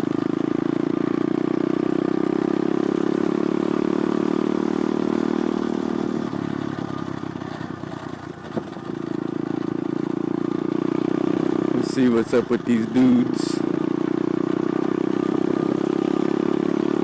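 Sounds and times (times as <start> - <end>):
pit bike engine running: 0.0 - 17.0.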